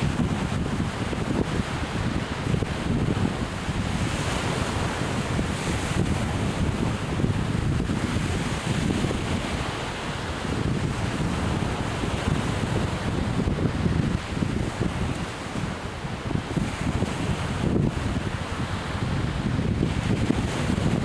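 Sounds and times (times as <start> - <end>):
surf washing onto beach: 0.0 - 21.0
wind buffeting microphone: 0.0 - 21.0.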